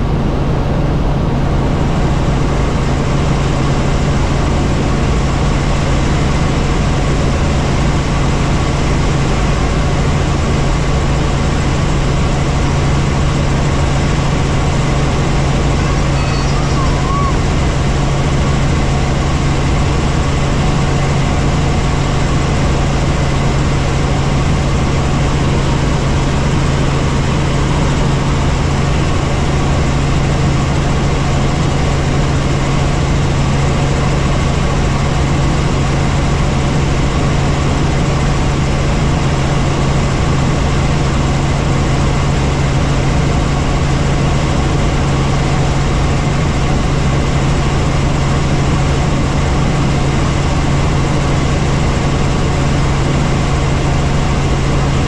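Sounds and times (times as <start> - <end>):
helicopter engine and rotors drone: 0.0 - 55.0.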